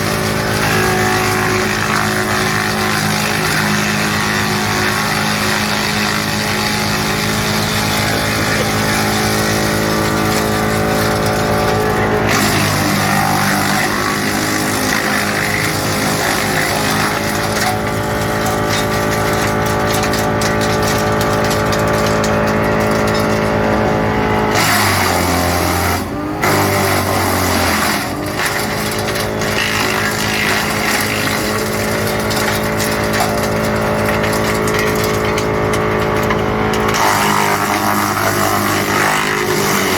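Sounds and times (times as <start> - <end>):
woodchipper chipping wood: 0.0 - 39.9.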